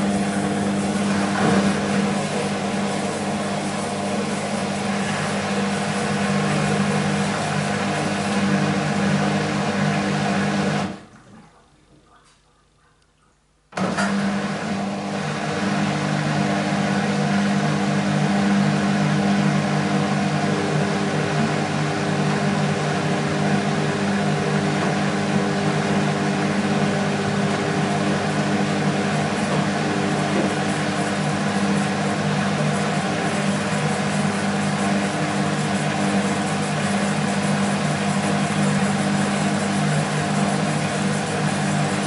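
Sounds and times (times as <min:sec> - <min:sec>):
washing machine hum: 0:00.0 - 0:42.0.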